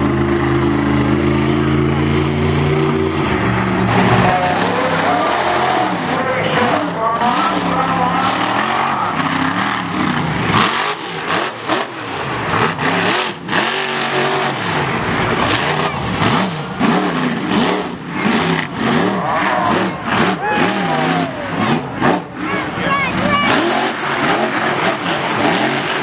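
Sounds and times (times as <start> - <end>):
big engine revving: 0.0 - 26.0.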